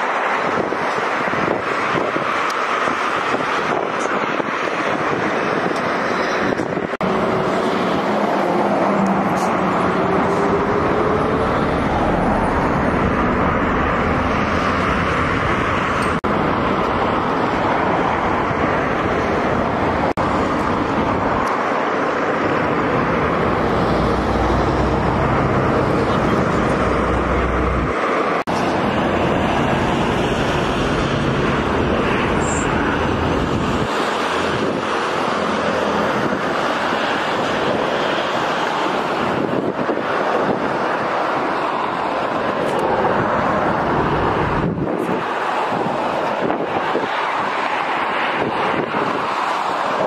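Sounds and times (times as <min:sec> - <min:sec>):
tyre roar on asphalt: 0:00.0 - 0:50.0
wind rush: 0:00.0 - 0:50.0.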